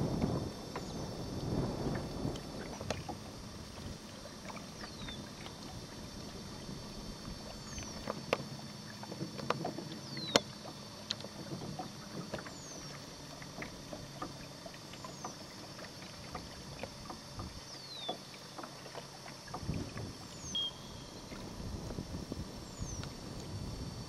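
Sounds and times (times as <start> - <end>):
water lapping against boat hull: 0.0 - 24.0.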